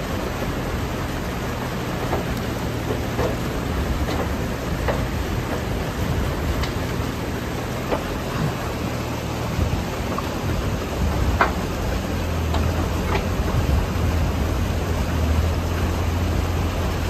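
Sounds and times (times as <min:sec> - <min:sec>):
excavator diesel engine running: 0:00.0 - 0:17.0
water rushing through a dam: 0:00.0 - 0:17.0.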